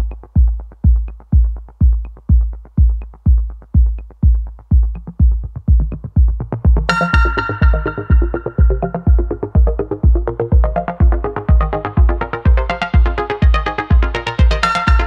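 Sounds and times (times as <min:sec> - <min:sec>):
electronic dance music: 0:00.0 - 0:15.0
heavy kick drum: 0:00.0 - 0:15.0.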